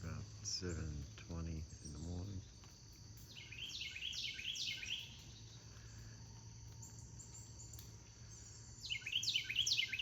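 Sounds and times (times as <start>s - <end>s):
high insect drone: 0.0s - 10.0s
songbird singing: 0.0s - 10.0s.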